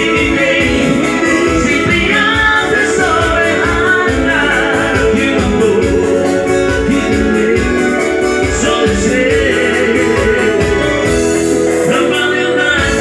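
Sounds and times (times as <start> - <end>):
steady drum beat: 0.0 - 11.9
electronic keyboard: 0.0 - 13.0
man singing: 0.0 - 13.0.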